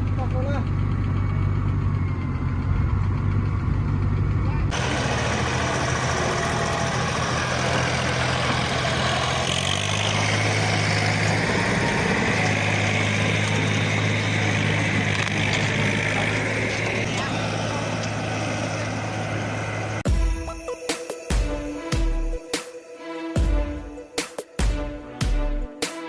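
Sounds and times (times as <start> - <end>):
diesel engine running: 0.0 - 22.5.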